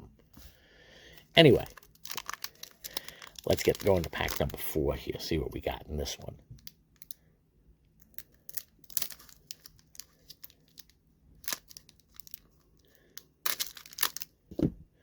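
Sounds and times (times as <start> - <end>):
plastic wrapper crinkling: 1.2 - 7.2, 8.0 - 14.4.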